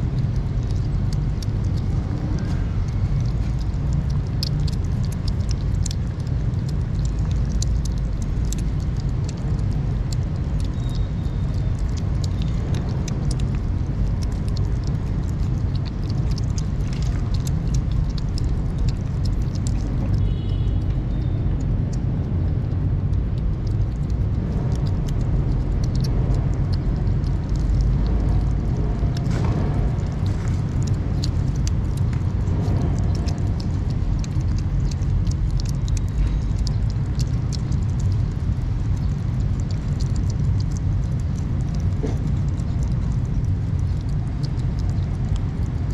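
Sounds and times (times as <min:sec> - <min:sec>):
kittens chewing and lapping food: 0:00.0 - 0:45.9
steady low rumble: 0:00.0 - 0:45.9.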